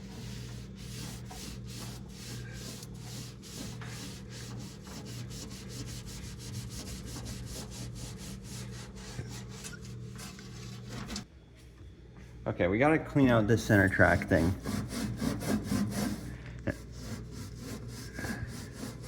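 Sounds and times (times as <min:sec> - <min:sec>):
scrubbing by hand: 0:00.0 - 0:11.3, 0:13.8 - 0:19.0
steady low hum: 0:00.0 - 0:19.0.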